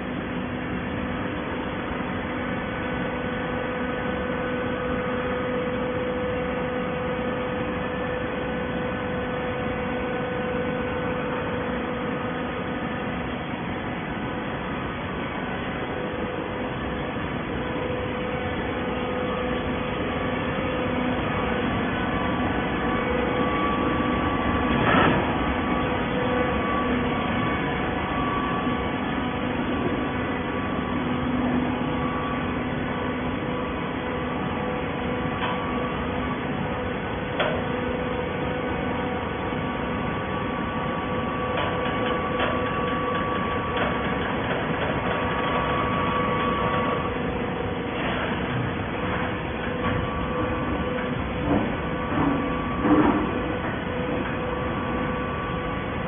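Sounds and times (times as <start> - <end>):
hydraulic baler motor humming: 0.0 - 56.0.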